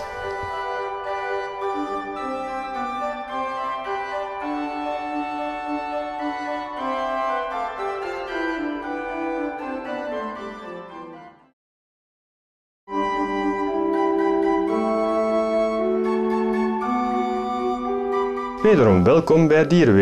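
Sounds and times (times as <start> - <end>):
organ music: 0.0 - 11.5, 12.9 - 20.0.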